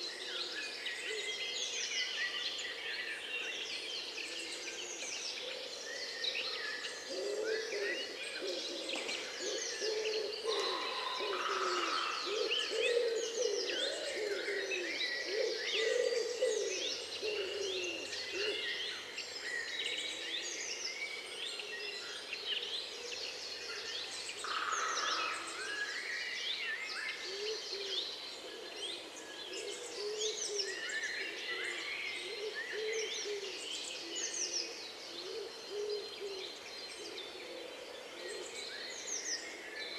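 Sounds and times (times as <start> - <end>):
low repeated bird calls: 0.0 - 39.9
songbirds chirping and trilling: 0.0 - 39.9.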